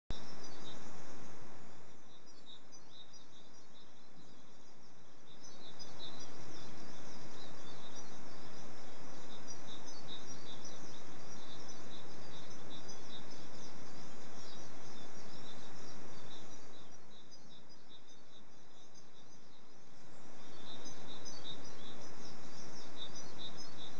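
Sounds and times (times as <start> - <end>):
birds twittering: 0.1 - 23.9.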